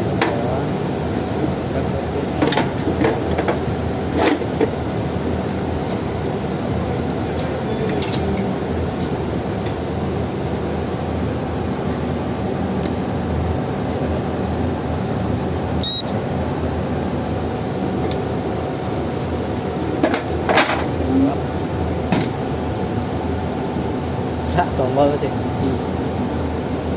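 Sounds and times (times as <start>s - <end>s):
mechanical hum with hiss: 0.0s - 26.9s.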